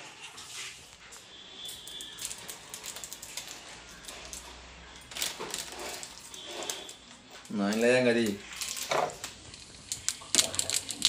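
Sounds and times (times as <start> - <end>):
plastic packet crinkling: 1.8 - 11.0.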